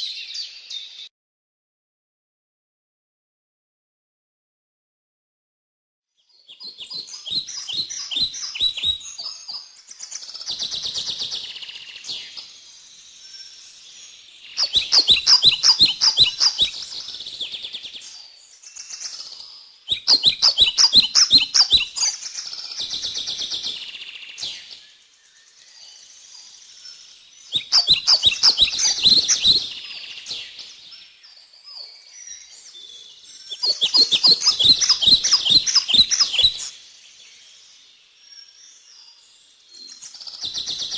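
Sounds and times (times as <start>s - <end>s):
songbird singing: 6.2s - 40.9s.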